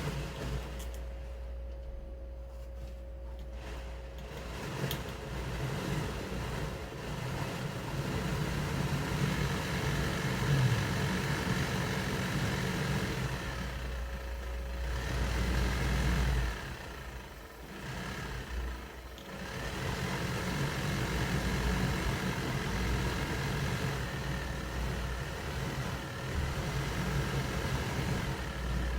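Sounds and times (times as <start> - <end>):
heater blower motor whirring: 0.0 - 28.9.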